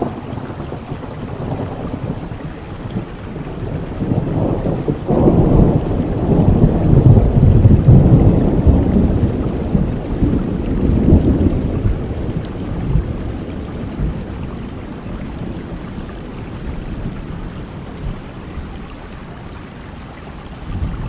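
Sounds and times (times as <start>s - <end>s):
low thunder rumble: 0.0s - 19.6s, 20.3s - 21.0s
steady rainfall: 0.0s - 21.0s.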